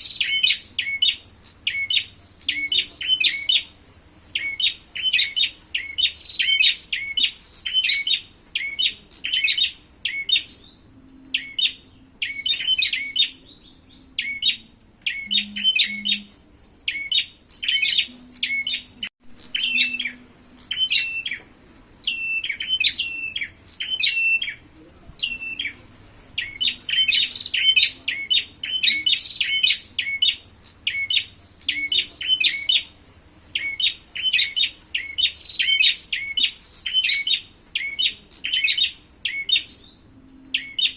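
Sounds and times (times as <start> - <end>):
songbirds chirping sharply: 0.0 - 40.9.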